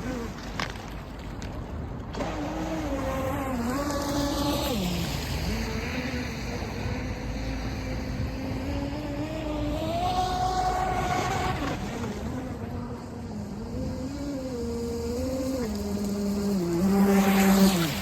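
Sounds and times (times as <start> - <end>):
electric motor whining: 2.1 - 18.0.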